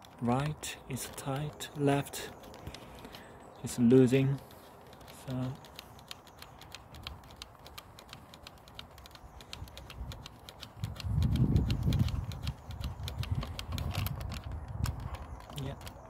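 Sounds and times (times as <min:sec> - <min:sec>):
nut turning clicks and scratches: 0:00.0 - 0:16.0.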